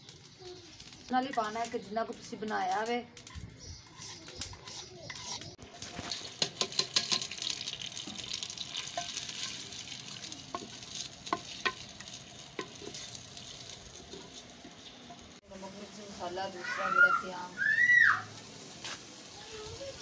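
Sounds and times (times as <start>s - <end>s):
onions sizzling: 0.0s - 20.0s.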